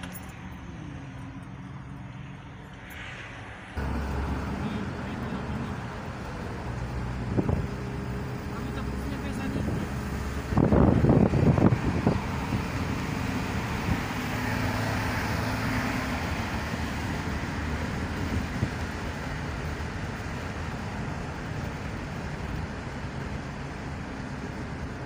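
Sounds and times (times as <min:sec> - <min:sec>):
engine and tyre rumble: 0:00.0 - 0:25.0
wind: 0:00.0 - 0:25.0.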